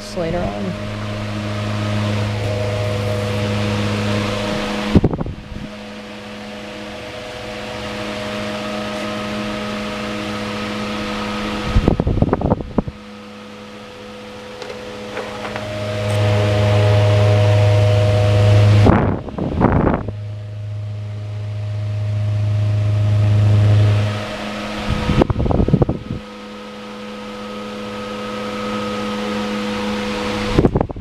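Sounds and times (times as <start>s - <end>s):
airflow buffeting microphone: 0.0s - 31.0s
electric fan humming and whirring: 0.0s - 31.0s.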